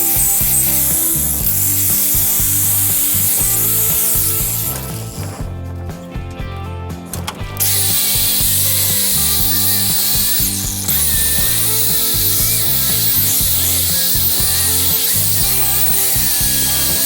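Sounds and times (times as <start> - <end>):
wire brush power tool rasping: 0.0 - 5.6, 7.2 - 17.0
background music: 0.0 - 17.0.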